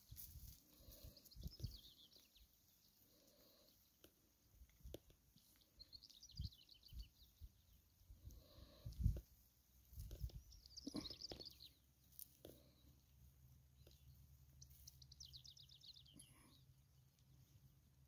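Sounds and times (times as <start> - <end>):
small bird chirping: 0.0 - 4.1, 4.9 - 9.2, 9.9 - 13.0, 13.7 - 16.8.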